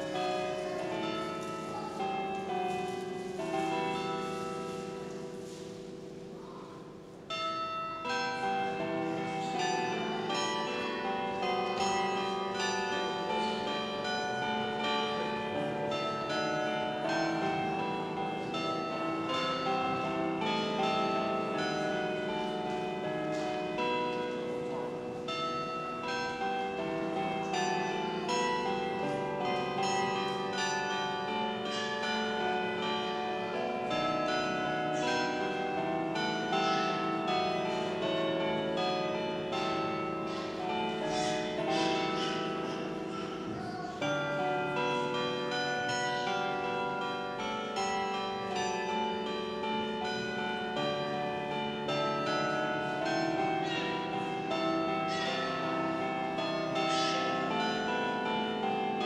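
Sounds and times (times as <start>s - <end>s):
bells pealing: 0.0s - 59.0s.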